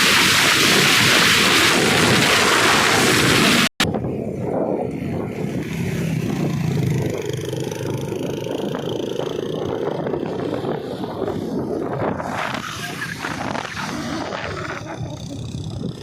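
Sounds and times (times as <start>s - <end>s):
engines running and revving: 0.0s - 16.0s.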